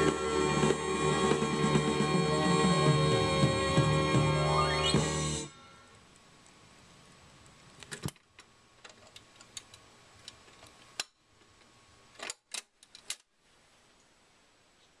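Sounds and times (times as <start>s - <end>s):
record player low hum: 0.0s - 12.1s.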